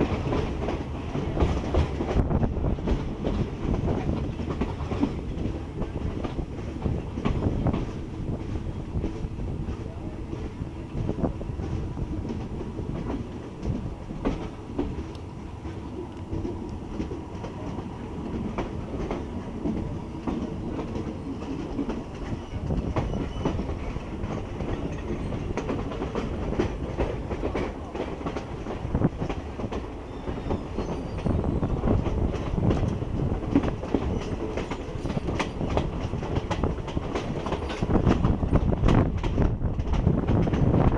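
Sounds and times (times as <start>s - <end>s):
train wheels clacking on rails: 0.0s - 40.9s.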